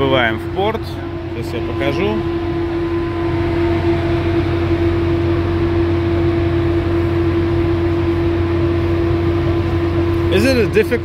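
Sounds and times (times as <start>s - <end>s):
ship machinery hum: 0.0s - 11.0s.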